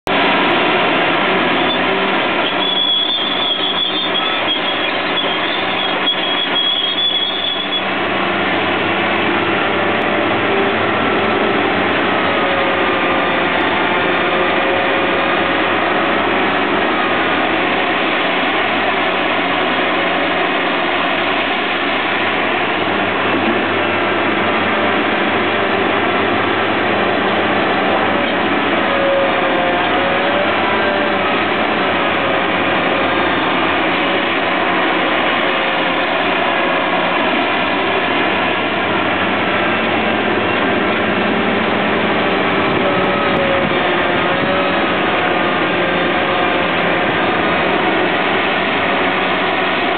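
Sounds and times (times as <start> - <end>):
excavator diesel engine under load: 0.0 - 49.9
hydraulics working: 0.1 - 49.9.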